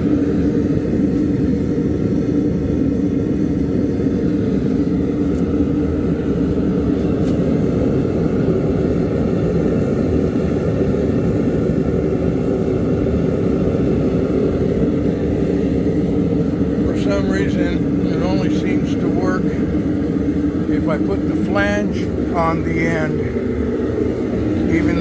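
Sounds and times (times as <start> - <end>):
propane burner roaring: 0.0 - 25.0.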